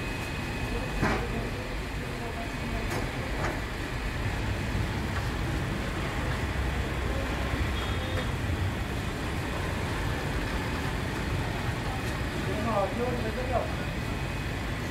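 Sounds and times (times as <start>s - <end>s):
bakery machinery rumbling: 0.0s - 14.9s.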